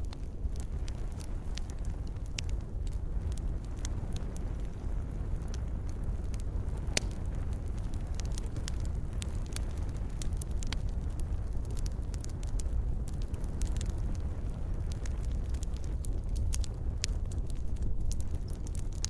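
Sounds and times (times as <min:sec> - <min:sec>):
campfire flames rumbling: 0:00.0 - 0:19.0
fire crackles and pops: 0:00.0 - 0:19.0.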